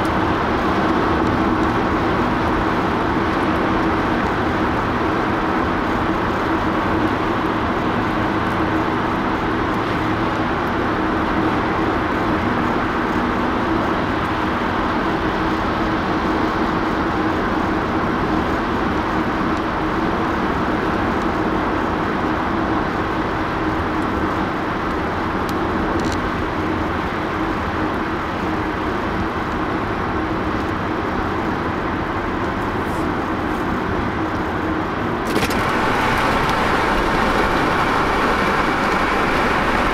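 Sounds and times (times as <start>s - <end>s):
car road noise on highway: 0.0s - 39.9s.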